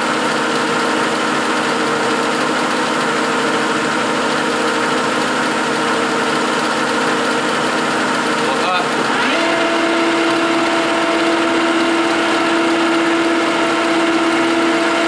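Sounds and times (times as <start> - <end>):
lathe mechanical hum: 0.0 - 15.0.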